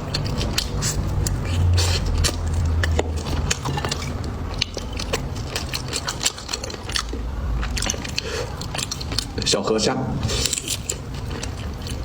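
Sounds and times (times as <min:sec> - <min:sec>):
crunchy chewing: 0:00.0 - 0:09.6, 0:10.2 - 0:12.0.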